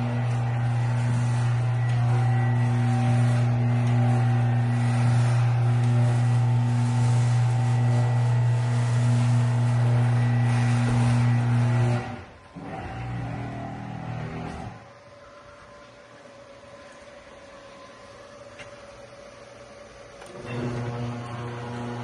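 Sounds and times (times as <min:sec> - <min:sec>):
garage door motor humming: 0:00.0 - 0:22.0.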